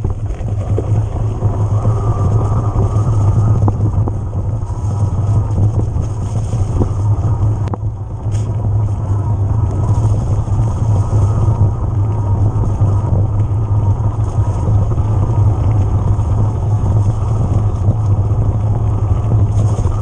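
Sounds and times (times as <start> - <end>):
bike tyres on trail: 0.0 - 20.0
wind on microphone: 0.0 - 20.0.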